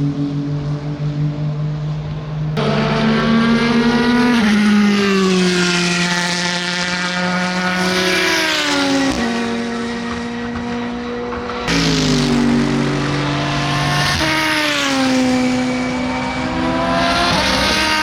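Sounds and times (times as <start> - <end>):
race car engine: 0.0 - 18.0.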